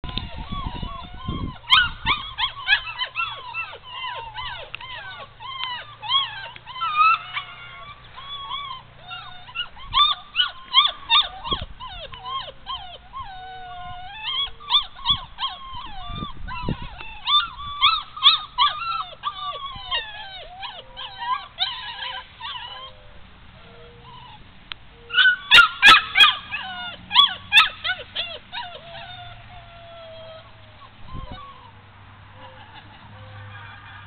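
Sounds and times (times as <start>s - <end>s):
puppy whining and yelping: 0.0s - 34.0s.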